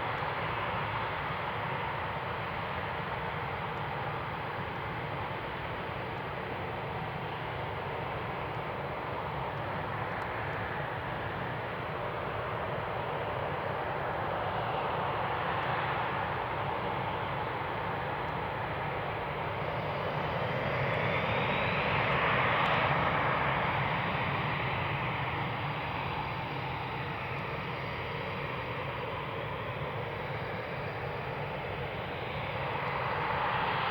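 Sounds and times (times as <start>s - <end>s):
jet engines rumbling and whining: 0.0s - 33.9s.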